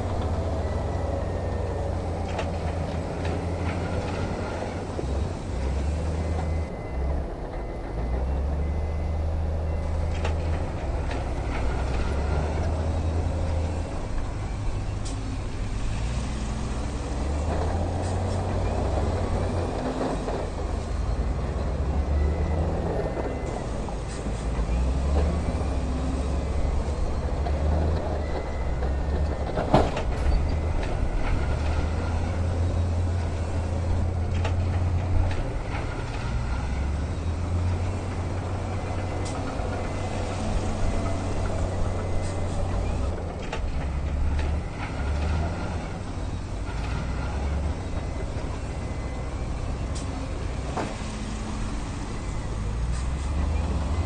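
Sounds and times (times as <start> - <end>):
diesel truck engines rumbling: 0.0 - 54.0.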